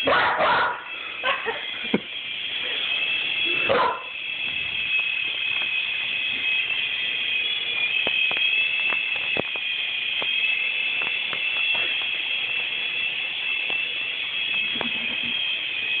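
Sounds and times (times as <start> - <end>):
toy helicopter motor whining: 0.9 - 16.0.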